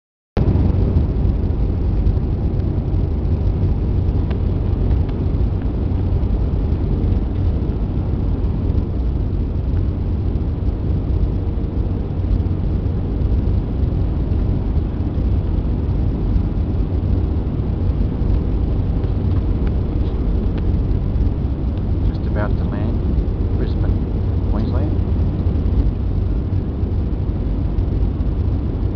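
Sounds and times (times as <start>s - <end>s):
faint steady hum: 0.4s - 28.9s
jet engine roar in cabin: 0.4s - 28.9s.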